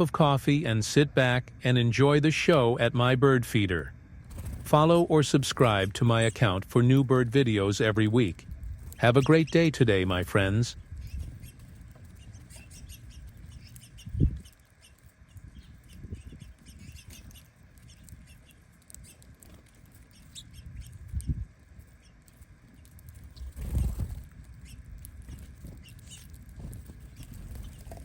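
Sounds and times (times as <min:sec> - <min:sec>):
faint ticks of birds: 0:00.0 - 0:28.0.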